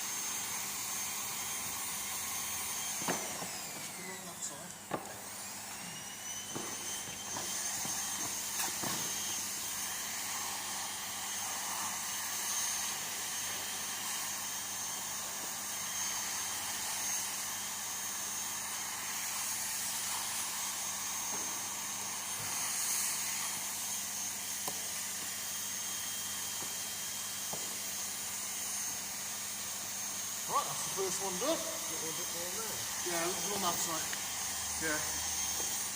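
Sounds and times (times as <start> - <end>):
heat gun blowing with high whine: 0.0 - 35.9.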